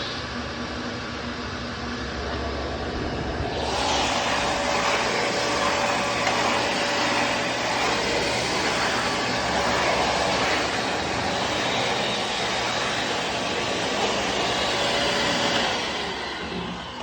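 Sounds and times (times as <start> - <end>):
vacuum cleaner whooshing: 2.2 - 17.0.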